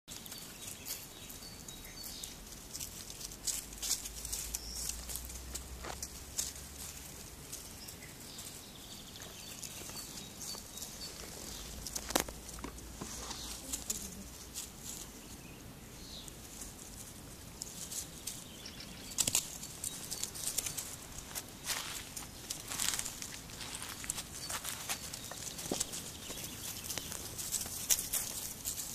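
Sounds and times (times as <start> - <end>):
puppies rustling in dry leaves: 0.1 - 28.9.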